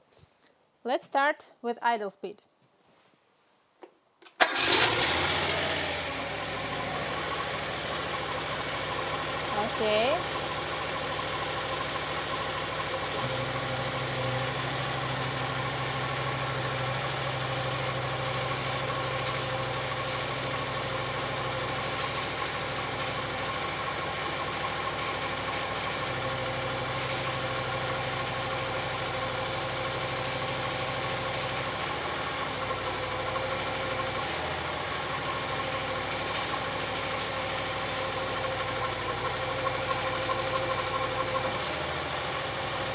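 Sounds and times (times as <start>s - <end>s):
engine idling: 4.4s - 42.9s.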